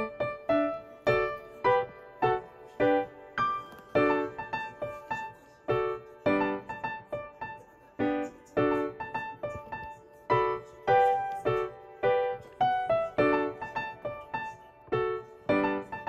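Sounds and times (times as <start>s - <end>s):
light piano tune: 0.0s - 16.0s.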